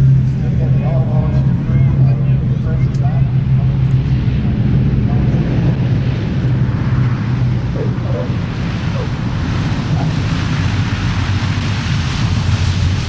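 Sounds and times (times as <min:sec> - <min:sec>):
propeller aircraft engines running: 0:00.0 - 0:13.0
wind noise on microphone: 0:00.0 - 0:13.0.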